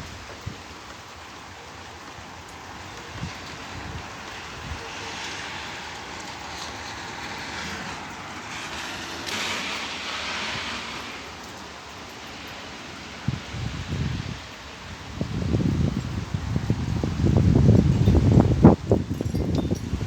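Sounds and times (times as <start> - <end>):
storm wind and rain rushing: 0.0 - 20.0.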